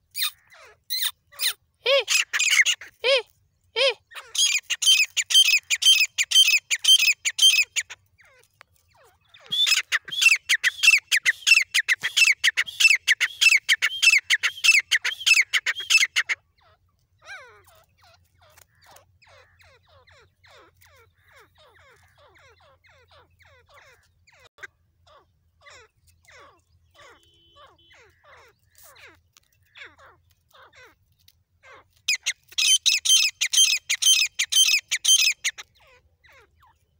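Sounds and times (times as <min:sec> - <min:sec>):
francolin calling: 0:00.0 - 0:03.2, 0:03.8 - 0:31.0, 0:31.6 - 0:36.8.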